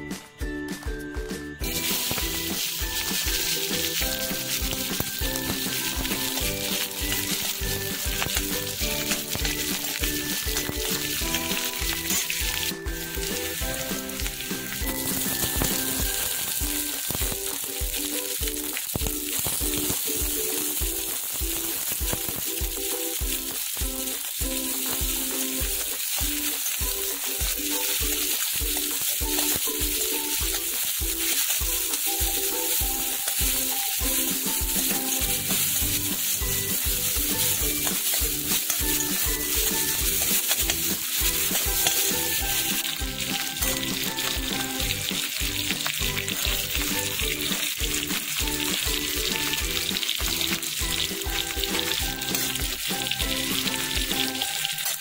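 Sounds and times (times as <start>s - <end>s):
background music with steady beat: 0.0s - 55.0s
onions and tomatoes sizzling in oil: 0.0s - 55.0s
steel ladle stirring: 1.6s - 55.0s.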